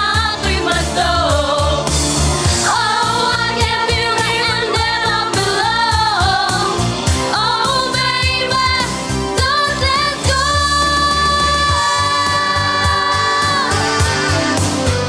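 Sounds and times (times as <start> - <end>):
girls singing pop song: 0.0 - 14.6
backing track with steady beat: 0.0 - 15.0.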